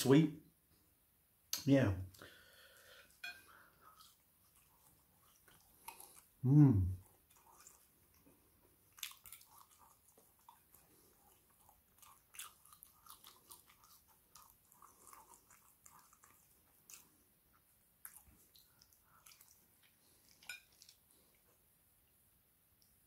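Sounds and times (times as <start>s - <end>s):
person chewing with wet mouth sounds: 2.1s - 23.0s.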